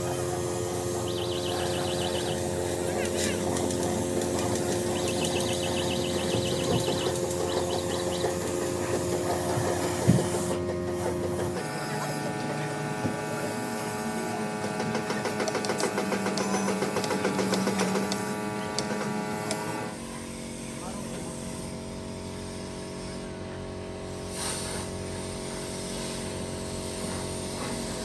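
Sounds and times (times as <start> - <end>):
small workshop tools whirring: 0.0 - 28.0.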